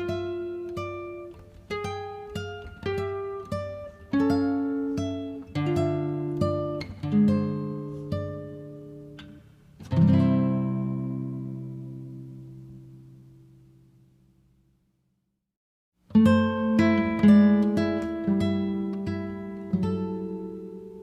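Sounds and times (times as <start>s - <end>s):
acoustic guitar plucking and strumming: 0.0s - 14.0s, 16.1s - 21.0s.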